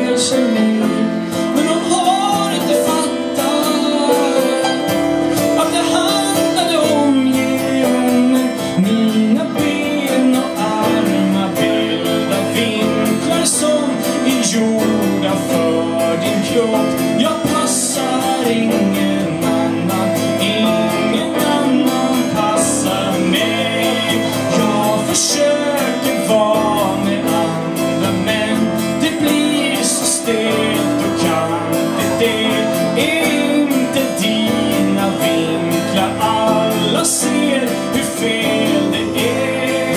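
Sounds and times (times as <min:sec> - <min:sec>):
person singing: 0:00.0 - 0:39.9
strummed acoustic guitar: 0:00.0 - 0:39.9.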